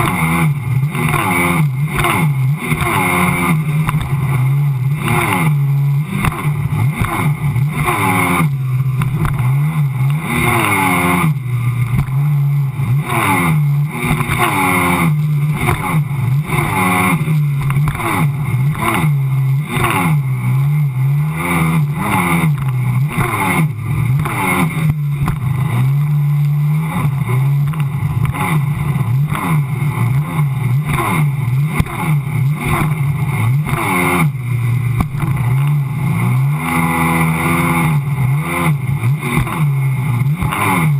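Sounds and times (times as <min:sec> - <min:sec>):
watercraft engine running hard: 0:00.0 - 0:40.9.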